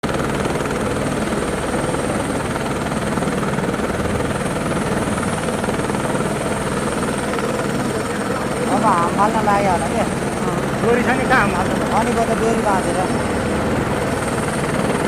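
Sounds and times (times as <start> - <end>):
helicopter rotor and turbine: 0.0 - 15.0.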